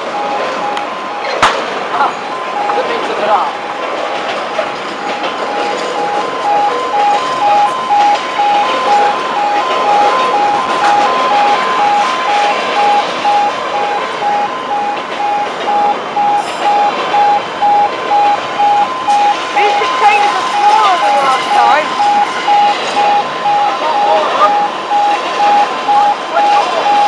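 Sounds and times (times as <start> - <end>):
freight train wagons rumbling: 0.0 - 27.0
level crossing alarm pulsing: 0.0 - 27.0.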